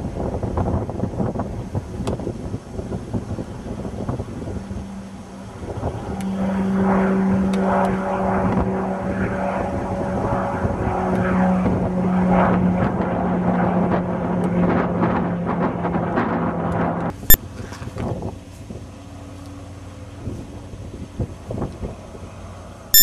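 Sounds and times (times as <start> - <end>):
propeller airplane flying past: 0.0 - 23.0.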